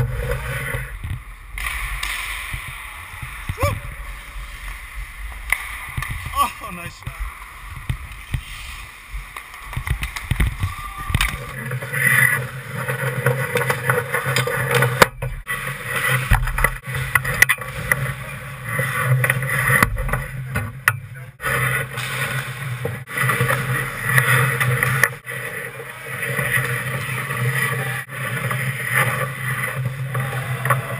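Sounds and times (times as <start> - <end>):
hockey sticks hitting puck: 0.0 - 8.6, 9.2 - 30.9
skate blades scraping ice: 0.0 - 20.1, 21.4 - 30.9.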